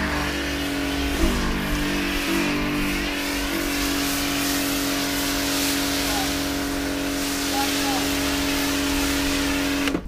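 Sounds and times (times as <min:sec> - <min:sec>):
foam lance spraying hiss: 0:00.0 - 0:10.0
pressure washer motor hum: 0:00.0 - 0:10.0.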